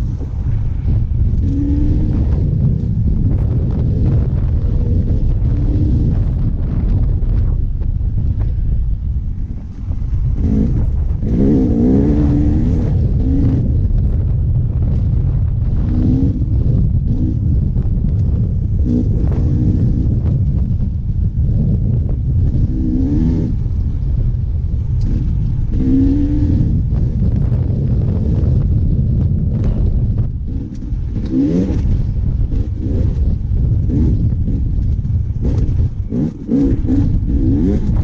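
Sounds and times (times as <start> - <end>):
dirt bike engine revving: 0.0 - 6.9, 9.4 - 14.2, 15.6 - 23.8, 24.9 - 38.0
wind rumble on microphone: 0.0 - 38.0.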